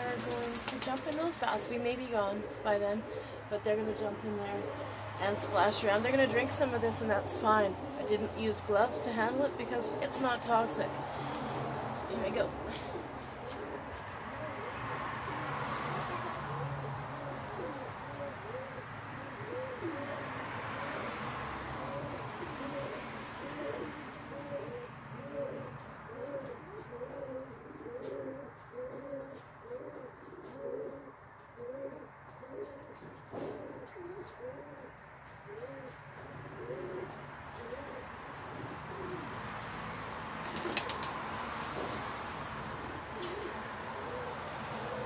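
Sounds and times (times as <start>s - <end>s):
pigeons cooing: 0.0s - 39.6s, 42.6s - 45.0s.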